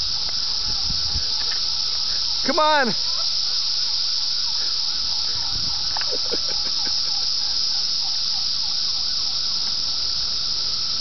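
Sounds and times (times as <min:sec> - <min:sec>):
cicadas whining: 0:00.0 - 0:11.0
wavering cicada call: 0:00.0 - 0:11.0.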